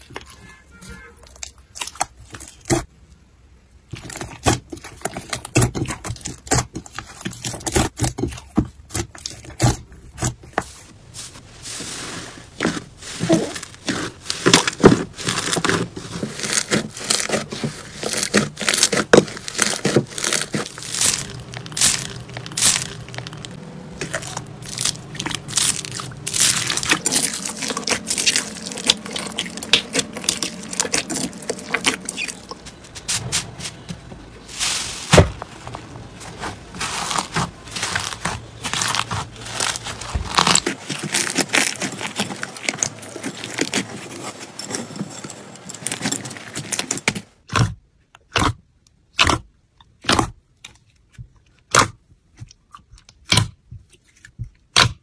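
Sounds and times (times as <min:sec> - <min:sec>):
slime crackling and squishing: 0:00.0 - 0:03.0, 0:03.7 - 0:33.5, 0:34.4 - 0:55.0.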